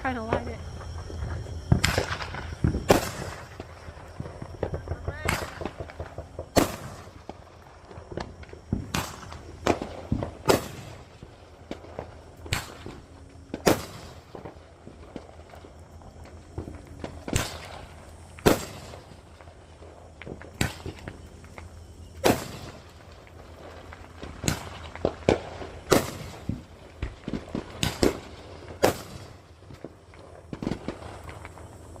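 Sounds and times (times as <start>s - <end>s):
firework crackles: 0.0s - 32.0s
firework bangs and pops: 0.1s - 32.0s.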